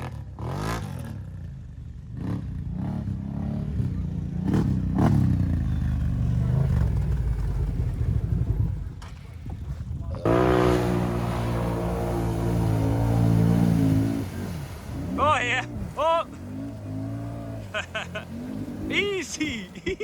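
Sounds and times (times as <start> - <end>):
atv engine revving: 0.0 - 8.9, 10.2 - 19.6.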